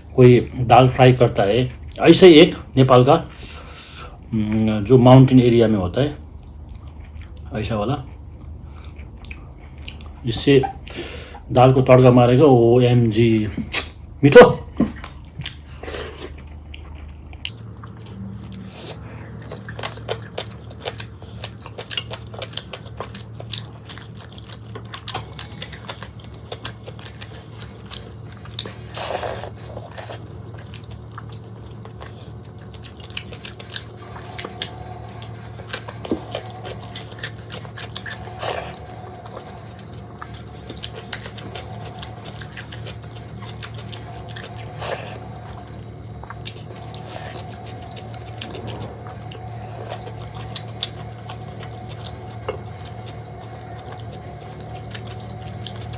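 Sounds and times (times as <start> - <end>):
person chewing: 6.3 - 11.5, 14.8 - 55.9.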